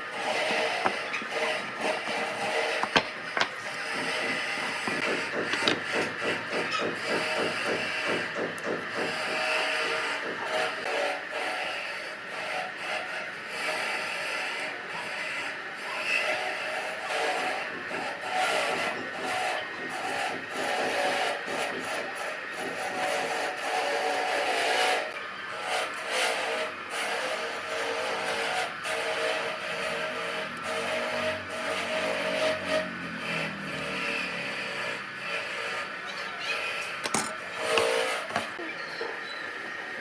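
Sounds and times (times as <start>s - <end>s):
tool scraping wood: 0.0s - 10.9s, 16.8s - 38.6s.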